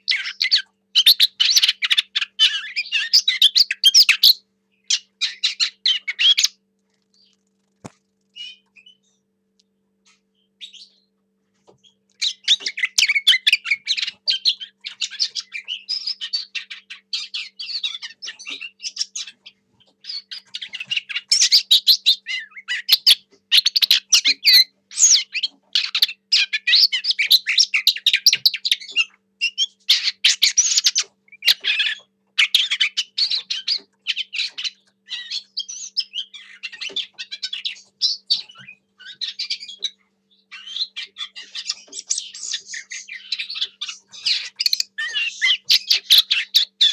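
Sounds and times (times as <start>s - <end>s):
bird warbling song: 0.0s - 9.3s, 10.0s - 46.9s.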